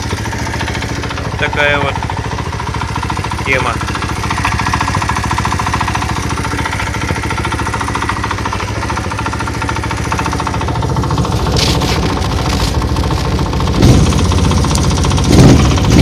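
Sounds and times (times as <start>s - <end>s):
small engine idling with knock: 0.0s - 16.0s.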